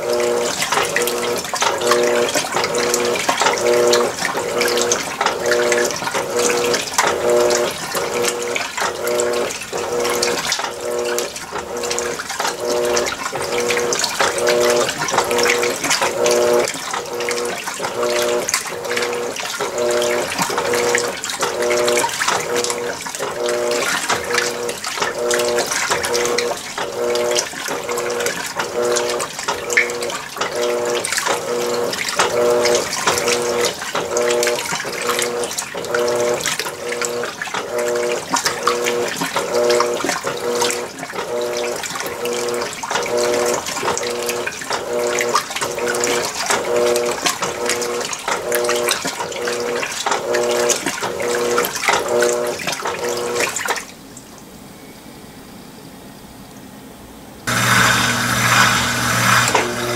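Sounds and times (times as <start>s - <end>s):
washing machine motor pulsing hum: 0.0s - 55.3s, 56.8s - 59.9s
water noise: 0.0s - 55.4s, 56.5s - 59.9s.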